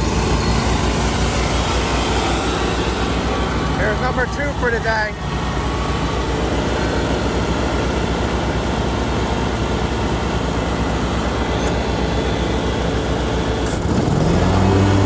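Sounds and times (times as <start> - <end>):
engine low throb: 0.0 - 15.0.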